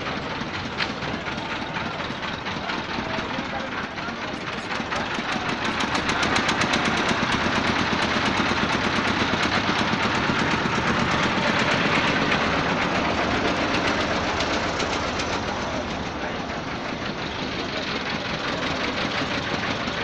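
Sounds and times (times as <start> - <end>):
small boat engine chugging: 0.0 - 20.0.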